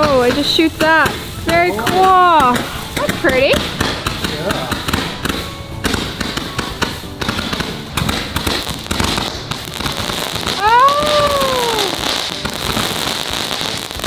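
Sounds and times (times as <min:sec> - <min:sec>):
firework cake crackling pops and bangs: 0:00.0 - 0:14.0.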